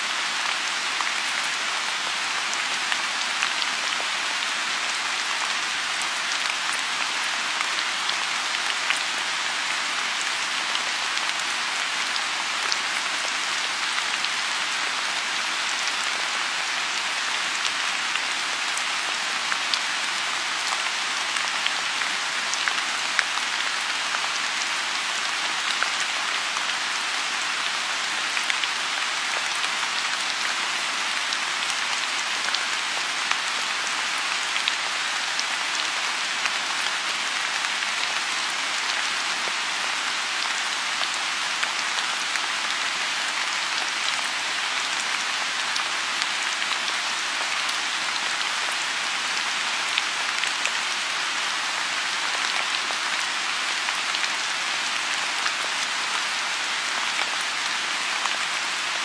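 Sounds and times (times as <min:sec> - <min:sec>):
rain falling on pond: 0:00.0 - 0:59.0.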